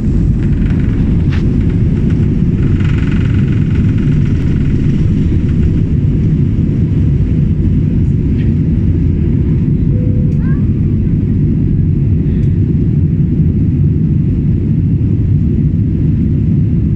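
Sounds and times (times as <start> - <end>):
high engine whine: 0.0 - 16.9
jet engine rumble in cabin: 0.0 - 16.9.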